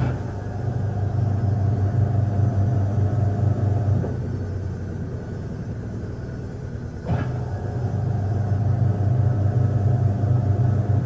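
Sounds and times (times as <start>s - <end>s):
washing machine drum spinning: 0.0s - 5.2s, 7.0s - 11.0s.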